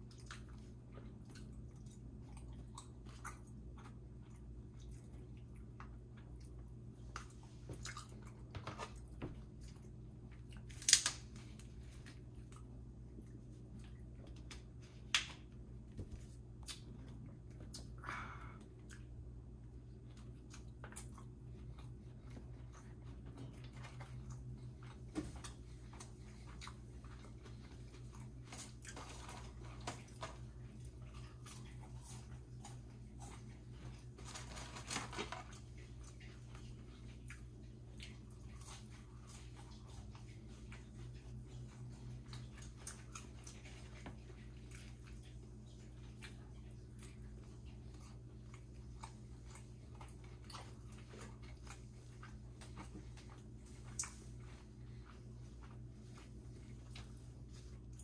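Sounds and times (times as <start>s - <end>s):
person chewing food: 0.0s - 58.0s
steady low hum: 0.0s - 58.0s.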